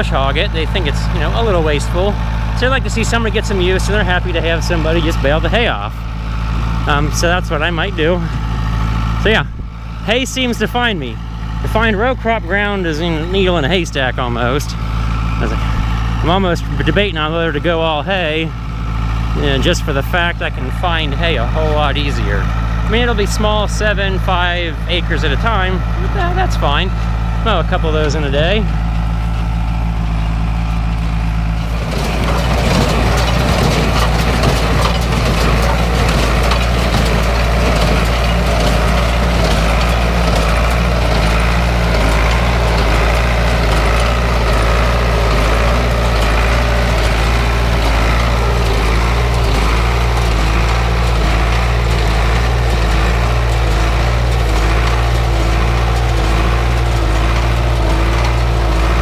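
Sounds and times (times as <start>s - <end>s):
diesel tractor running: 0.0s - 59.0s
hay baler clattering: 0.0s - 59.0s.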